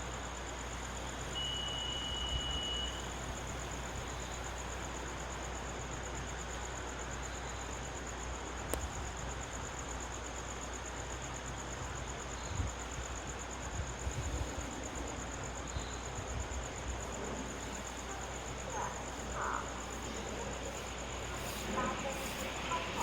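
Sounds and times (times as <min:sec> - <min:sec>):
background hiss and rumble: 0:00.0 - 0:23.0
insects trilling: 0:00.0 - 0:23.0.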